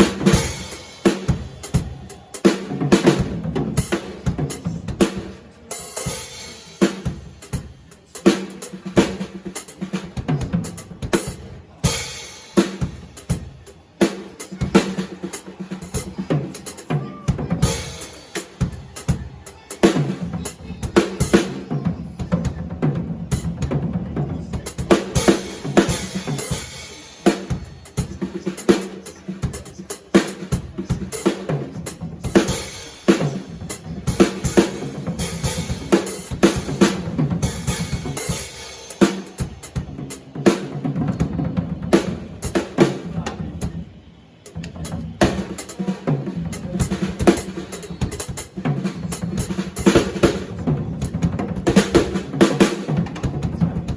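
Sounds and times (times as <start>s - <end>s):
drum kit groove: 0.0s - 53.9s.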